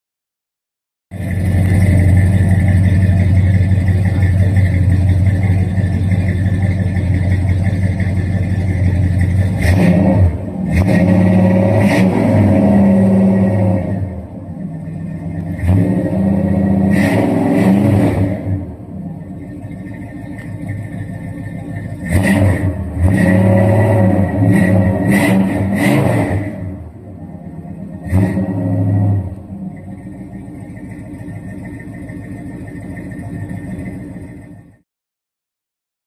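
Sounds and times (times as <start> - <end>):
car engine idling and revving: 1.1 - 34.8.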